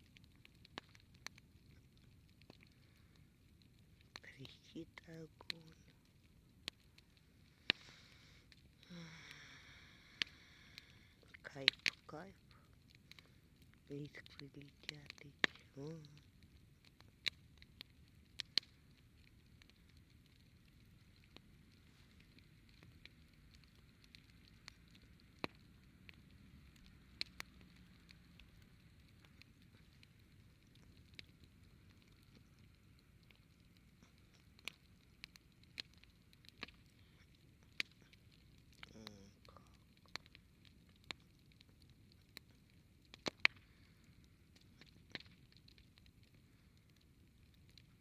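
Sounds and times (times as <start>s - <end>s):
campfire crackling: 0.0s - 48.0s
sharp pops of fire: 6.6s - 13.9s, 14.7s - 48.0s.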